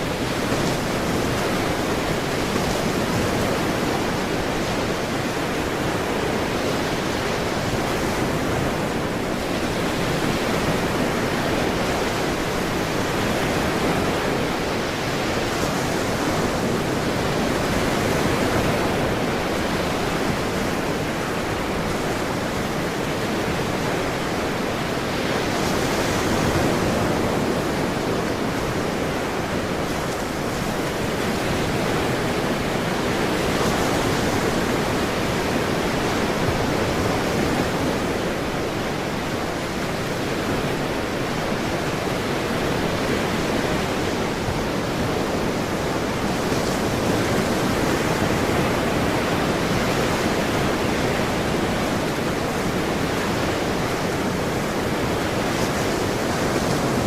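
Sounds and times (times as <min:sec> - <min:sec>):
ocean surf washing ashore: 0:00.0 - 0:57.0.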